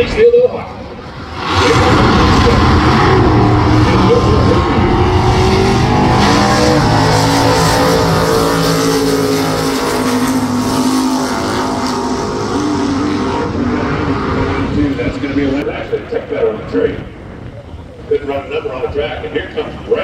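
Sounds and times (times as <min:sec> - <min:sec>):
drag car engines at full throttle: 0:00.0 - 0:20.0.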